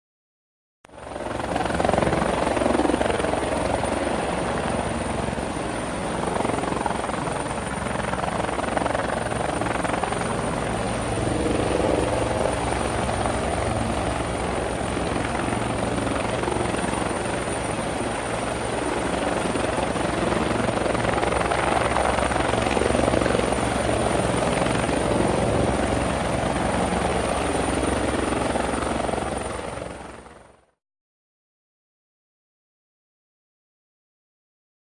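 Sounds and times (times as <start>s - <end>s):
helicopter rotor chopping: 0.9s - 30.6s.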